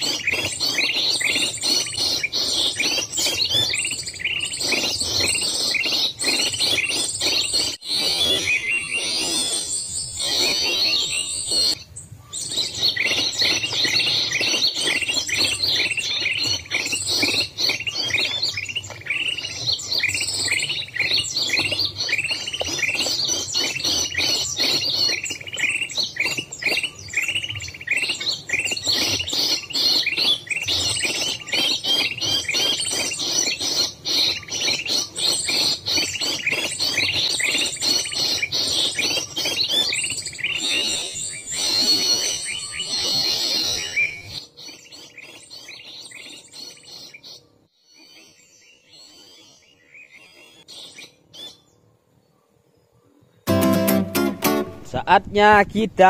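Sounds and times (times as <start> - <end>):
small birds chirping: 0.0 - 53.5.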